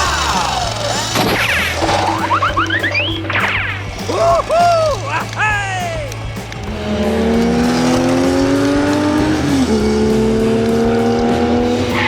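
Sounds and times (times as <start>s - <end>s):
background music: 0.0s - 12.0s
car engine accelerating: 0.0s - 12.0s.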